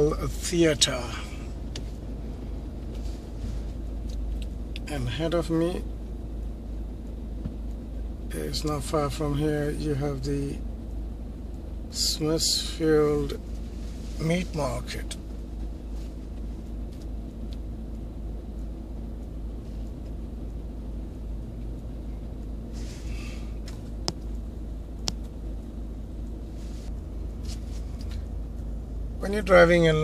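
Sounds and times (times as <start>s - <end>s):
car cabin rumble: 0.0s - 30.0s.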